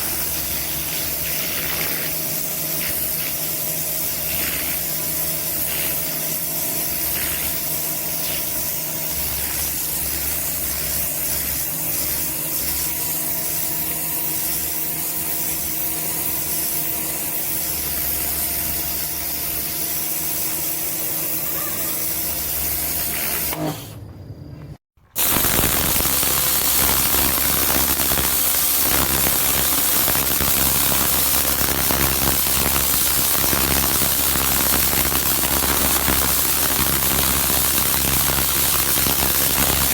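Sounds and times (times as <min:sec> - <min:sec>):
water spray hissing: 0:00.0 - 0:23.8, 0:25.2 - 0:39.9
pressure washer pump humming: 0:00.0 - 0:24.4, 0:25.1 - 0:39.9.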